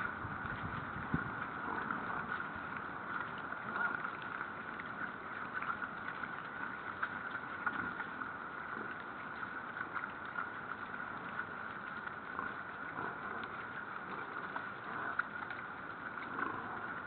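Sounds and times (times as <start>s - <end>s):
boar chewing and rooting: 0.0s - 17.0s.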